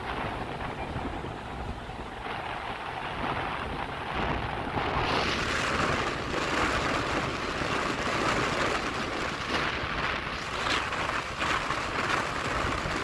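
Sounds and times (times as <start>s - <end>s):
surf breaking on beach: 0.0s - 13.0s
wind blowing across microphone: 0.0s - 13.0s.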